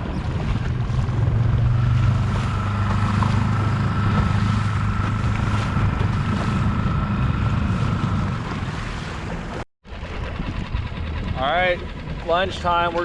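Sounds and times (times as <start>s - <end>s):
outboard motor humming: 0.0s - 13.0s
water around hull: 0.0s - 13.0s
wind buffeting microphone: 0.0s - 13.0s.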